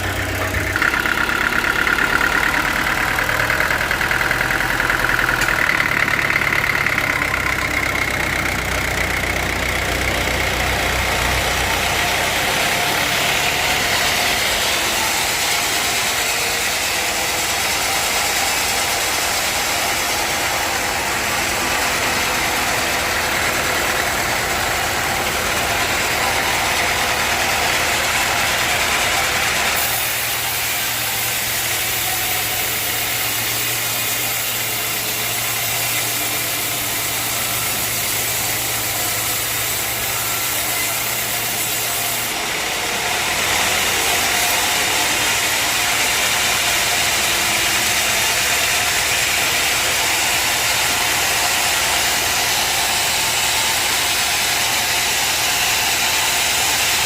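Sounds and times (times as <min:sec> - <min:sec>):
sawmill machine noise: 0:00.0 - 0:57.0.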